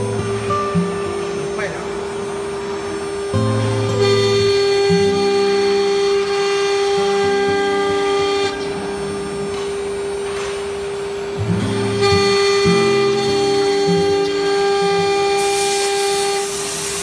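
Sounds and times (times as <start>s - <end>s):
spindle whining: 0.0s - 17.0s.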